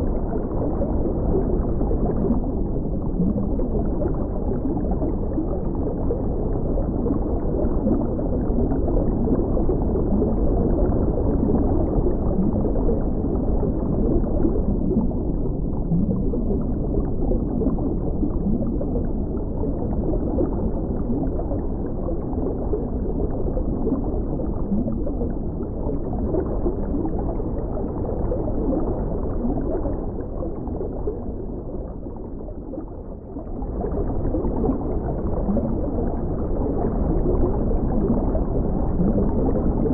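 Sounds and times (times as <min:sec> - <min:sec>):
muffled underwater bubbling: 0:00.0 - 0:39.9.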